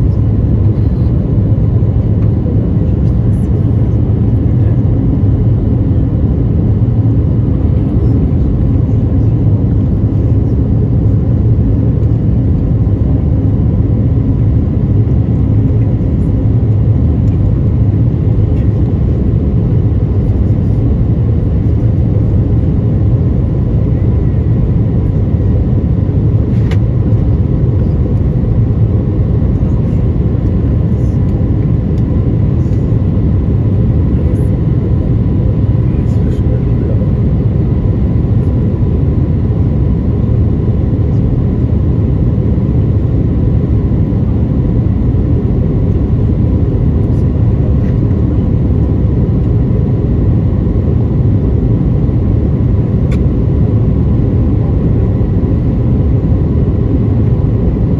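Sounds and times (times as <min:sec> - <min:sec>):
airplane cabin engine roar: 0:00.0 - 0:57.9
faint steady hums: 0:00.0 - 0:57.9.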